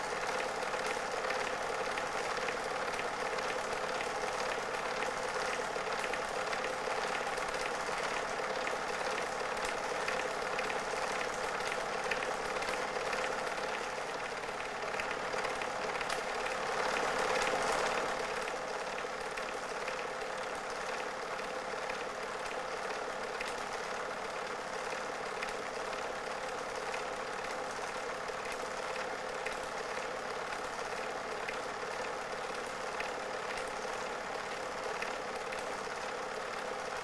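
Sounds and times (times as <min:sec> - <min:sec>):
film projector whirring: 0:00.0 - 0:37.0.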